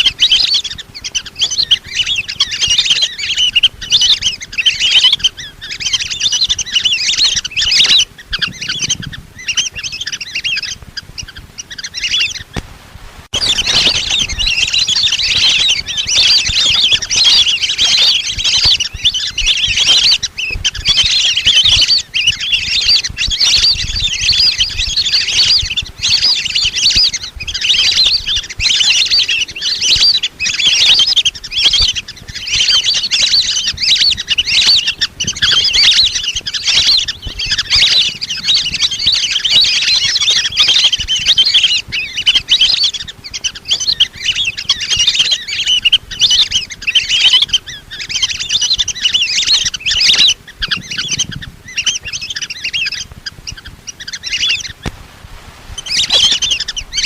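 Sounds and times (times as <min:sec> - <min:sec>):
ducks whistling chatter: 0:00.0 - 0:12.6, 0:13.3 - 0:55.0, 0:55.7 - 0:57.0.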